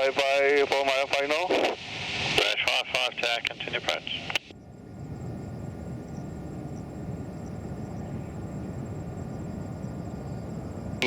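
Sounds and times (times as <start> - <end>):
distant jet engines roaring: 0.0 - 11.0.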